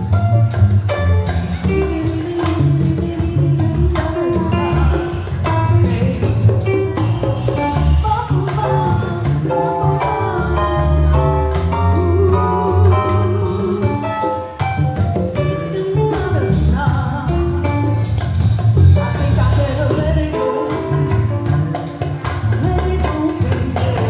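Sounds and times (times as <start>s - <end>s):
live band playing: 0.0s - 24.0s
person singing: 1.6s - 18.1s, 18.8s - 24.0s.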